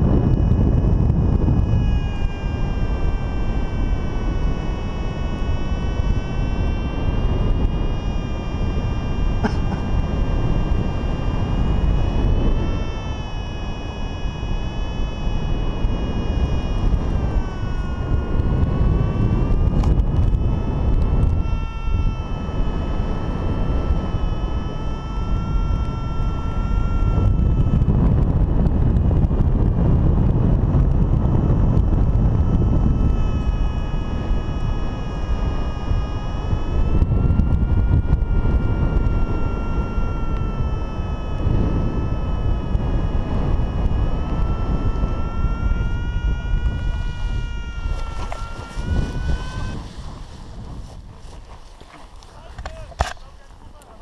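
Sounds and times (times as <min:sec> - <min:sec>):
thin wavering whine: 0:00.0 - 0:54.0
wind buffeting microphone: 0:00.0 - 0:54.0.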